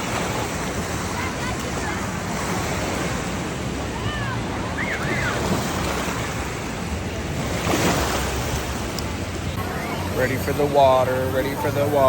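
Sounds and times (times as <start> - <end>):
waves washing in: 0.0 - 12.0.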